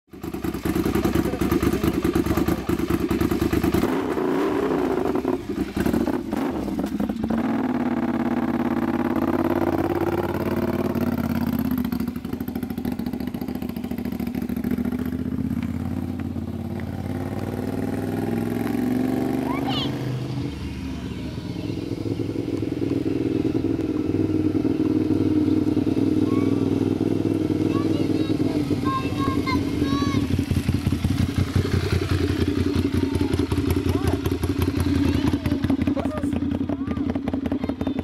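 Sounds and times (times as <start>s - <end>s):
motorcycle engine idling: 0.1s - 38.0s.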